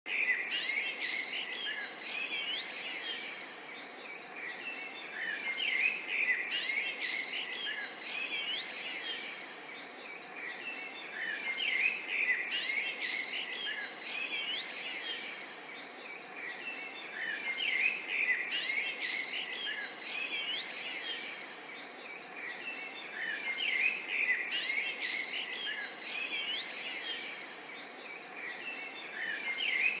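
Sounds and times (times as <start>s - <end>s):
small birds chirping and singing: 0.1s - 30.0s.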